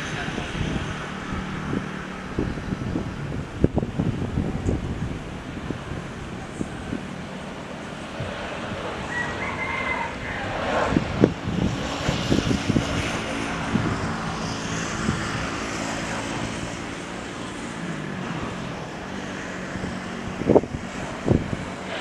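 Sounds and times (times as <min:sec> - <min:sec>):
jet engines passing low: 0:00.0 - 0:22.0.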